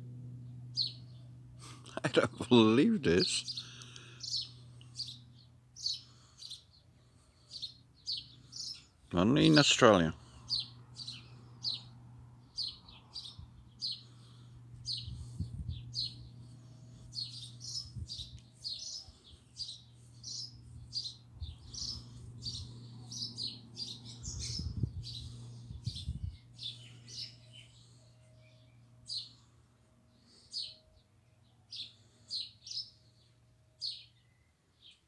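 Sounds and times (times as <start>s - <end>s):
birds chirping: 0.0s - 35.0s
steady low hum: 0.0s - 35.0s.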